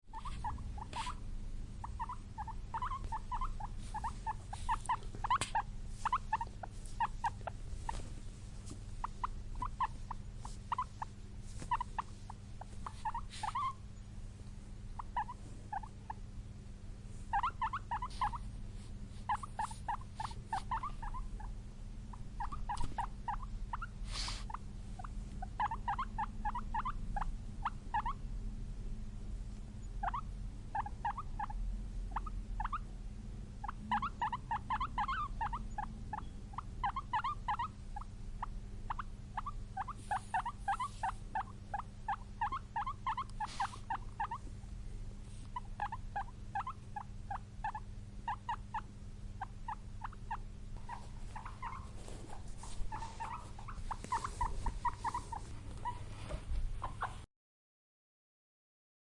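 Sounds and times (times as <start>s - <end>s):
low background hum: 0.0s - 57.3s
guinea pig squeaking: 0.1s - 1.2s, 1.8s - 8.1s, 8.9s - 14.0s, 14.9s - 16.3s, 17.3s - 28.2s, 29.8s - 32.9s, 33.6s - 44.5s, 45.4s - 57.3s.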